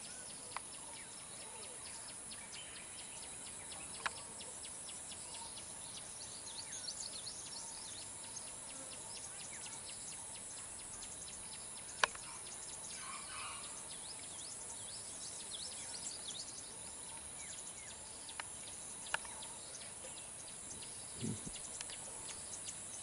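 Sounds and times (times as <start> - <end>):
birds chirping: 0.0 - 23.0
forest ambience hiss: 0.0 - 23.0.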